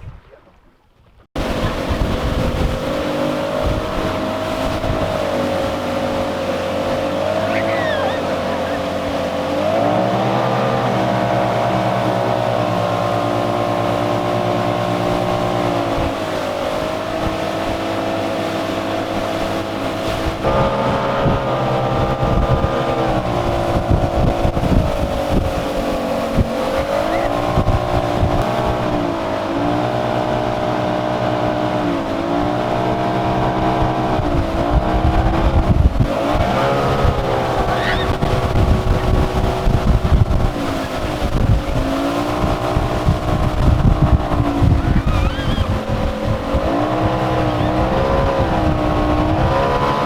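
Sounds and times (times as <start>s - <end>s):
motorboat engine running: 1.3s - 50.0s.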